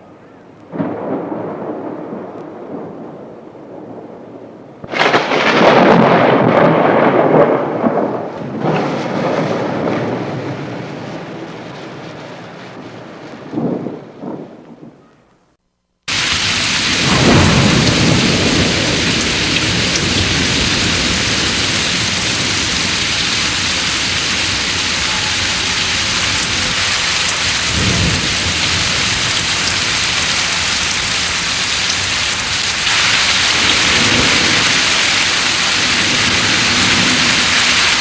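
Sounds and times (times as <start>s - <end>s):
heavy rain: 0.0s - 15.0s, 16.1s - 38.0s
rolls of thunder: 0.7s - 15.0s, 16.4s - 38.0s.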